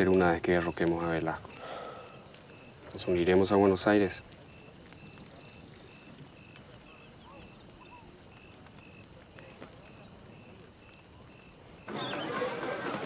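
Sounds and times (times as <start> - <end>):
faint ticks: 0.0 - 11.6
insect hiss: 0.0 - 12.5
cricket chirping: 0.0 - 13.0.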